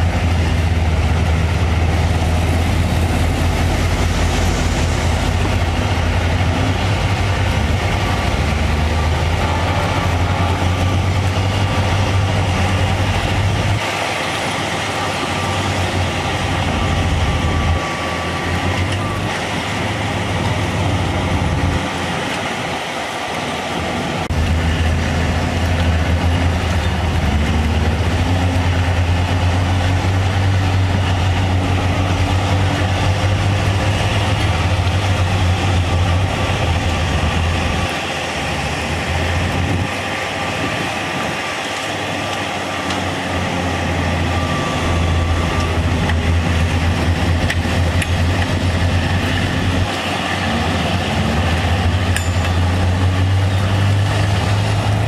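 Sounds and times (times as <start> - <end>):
heavy diesel machinery engine drone: 0.0 - 55.0.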